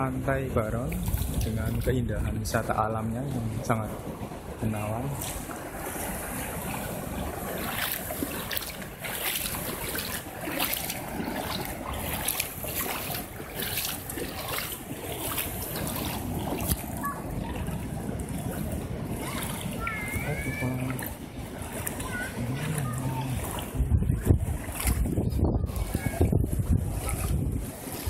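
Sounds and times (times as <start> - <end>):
shallow water lapping: 0.0 - 28.0
wind on microphone: 0.0 - 28.0
small water splashes: 0.6 - 28.0.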